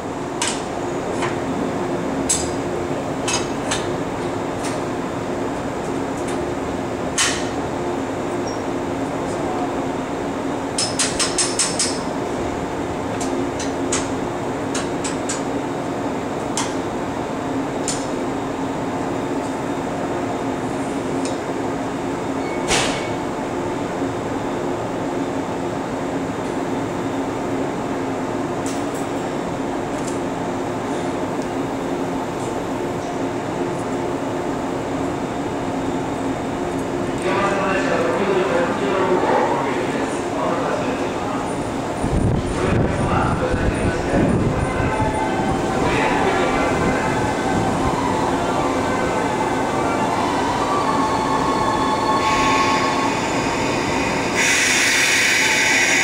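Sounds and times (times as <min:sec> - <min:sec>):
electric train hum: 0:00.0 - 0:56.0.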